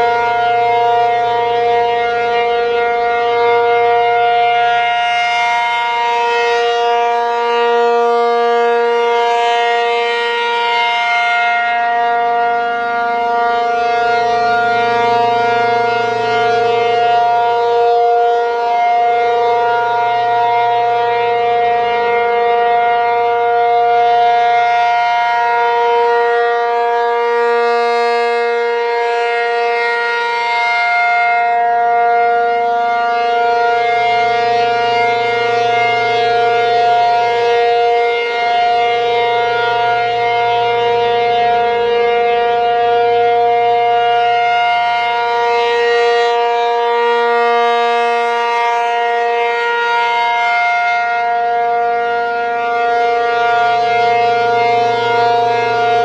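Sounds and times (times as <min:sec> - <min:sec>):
rotating warning siren: 0:00.0 - 0:56.0.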